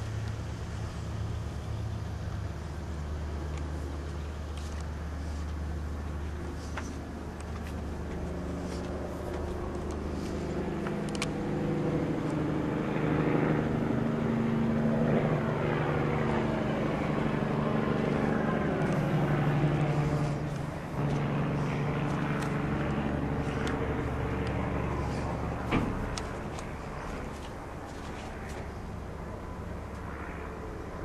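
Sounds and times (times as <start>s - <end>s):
motor engine running: 0.0s - 30.8s.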